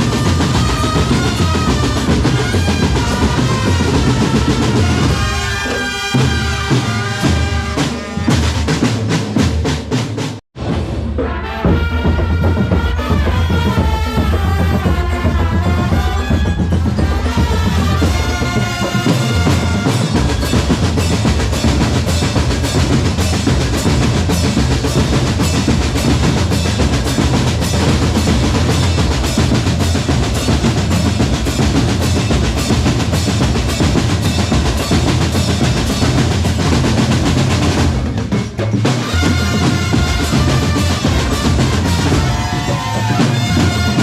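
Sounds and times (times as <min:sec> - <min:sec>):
bass drum beats: 0:00.0 - 0:44.0
fast snare drum rolls: 0:00.0 - 0:44.0.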